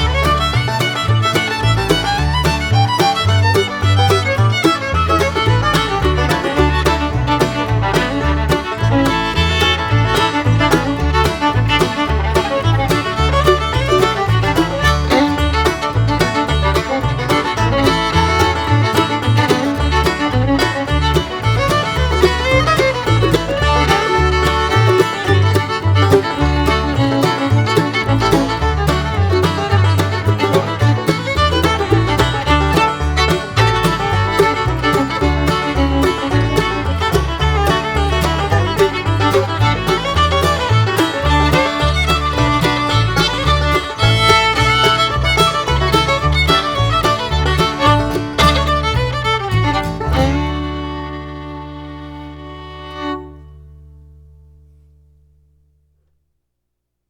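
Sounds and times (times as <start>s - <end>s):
bluegrass music with fiddle and banjo: 0.0s - 54.3s.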